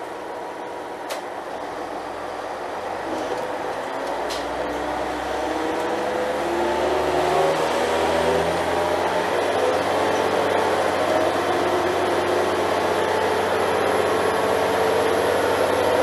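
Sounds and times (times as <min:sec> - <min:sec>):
diesel train engine revving: 0:00.0 - 0:16.0.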